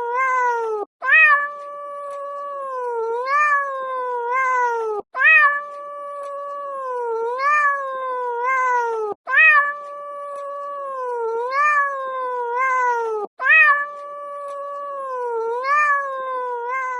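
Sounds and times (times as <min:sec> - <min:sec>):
cat meowing: 0:00.0 - 0:16.9.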